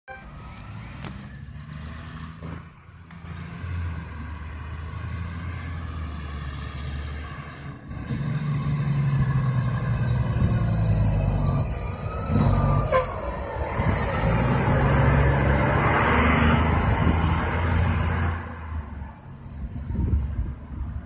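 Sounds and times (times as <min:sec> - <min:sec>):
fire engine diesel engine: 0:00.1 - 0:21.0.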